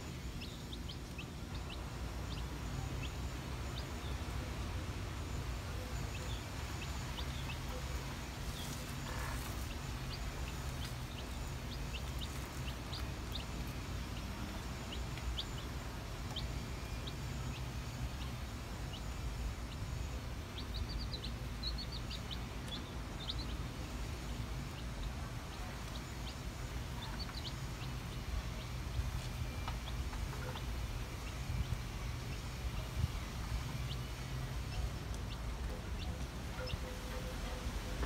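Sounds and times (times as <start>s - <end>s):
steady low hum: 0.0s - 38.0s
chicks peeping: 0.1s - 38.0s.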